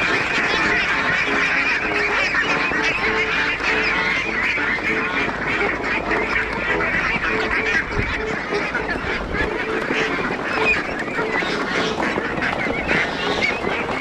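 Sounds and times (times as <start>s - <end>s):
ducks and geese honking and quacking: 0.0s - 14.0s.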